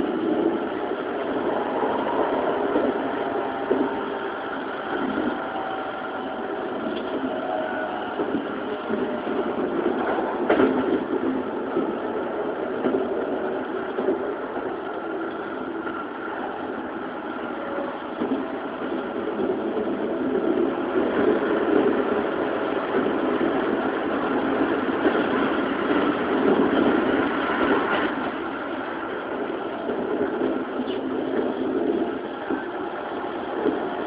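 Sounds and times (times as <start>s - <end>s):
train wheel-on-rail rumble: 0.0s - 34.0s.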